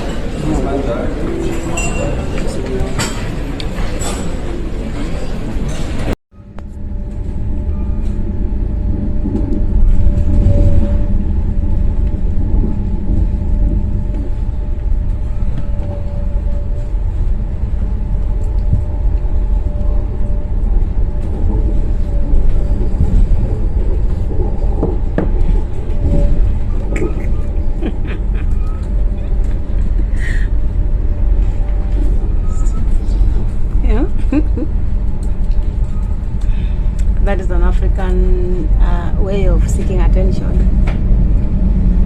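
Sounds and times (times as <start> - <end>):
vehicle interior rumble: 6.0 - 42.0.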